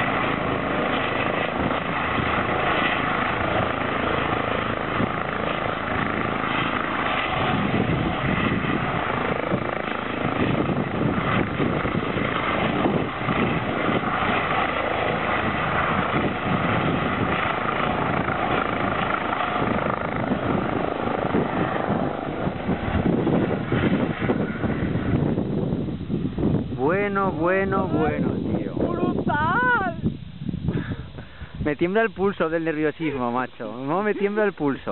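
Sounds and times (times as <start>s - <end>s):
helicopter turbine and rotor noise: 0.0s - 34.9s.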